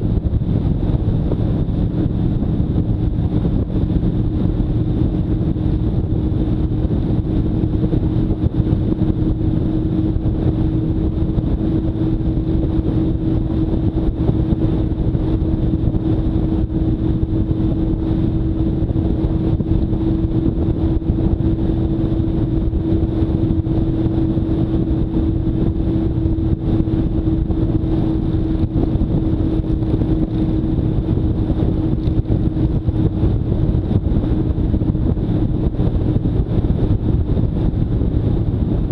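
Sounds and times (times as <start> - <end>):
motorcycle engine cruising: 0.0 - 38.9
wind noise on microphone: 0.0 - 38.9.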